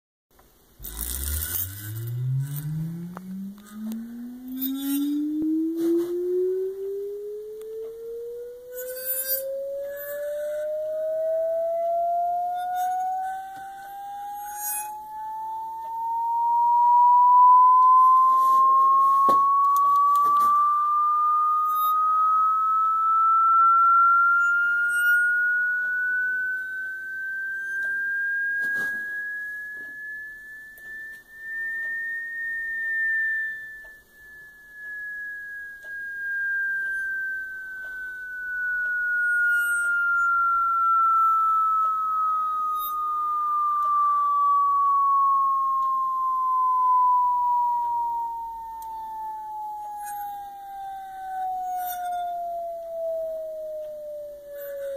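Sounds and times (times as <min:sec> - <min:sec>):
pure tone gliding up and down: 0:00.4 - 0:54.9.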